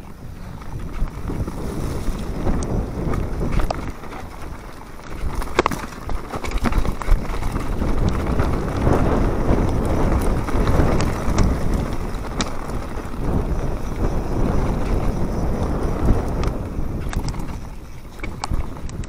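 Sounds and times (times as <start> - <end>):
bike clicks and rattles: 0.0 - 19.0
bike tyres on gravel trail: 0.0 - 19.0
wind buffeting microphone: 0.0 - 19.0.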